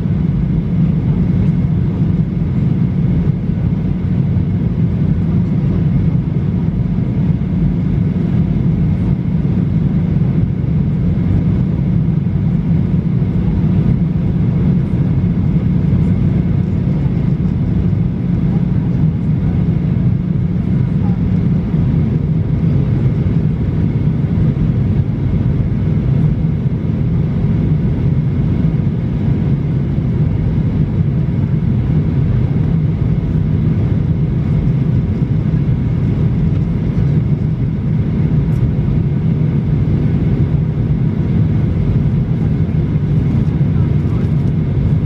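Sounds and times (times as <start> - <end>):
airflow over fuselage: 0.0 - 45.0
jet engine hum: 0.0 - 45.0.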